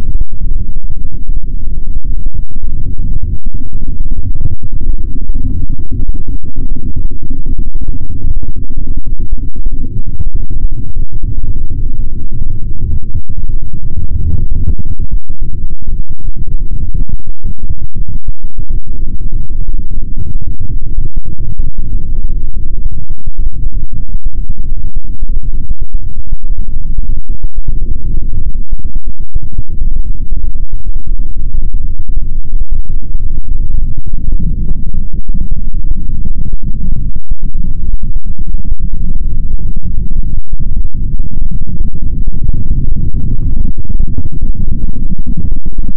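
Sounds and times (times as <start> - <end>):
low rumbling electronic noise music: 0.0 - 45.9.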